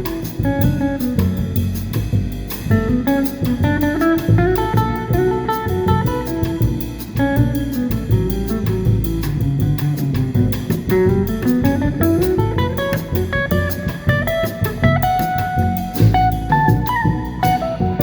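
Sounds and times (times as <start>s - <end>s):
bass: 0.0s - 18.0s
drum kit: 0.0s - 18.0s
guitar melody: 0.0s - 18.0s.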